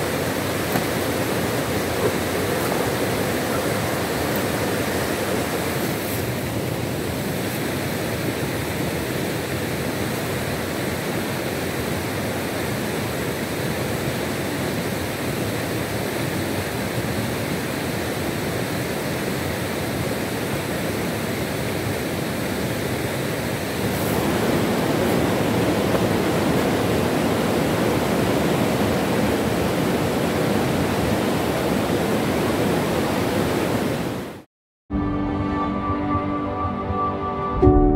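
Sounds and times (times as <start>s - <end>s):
river rushing over rocks: 0.0s - 34.4s.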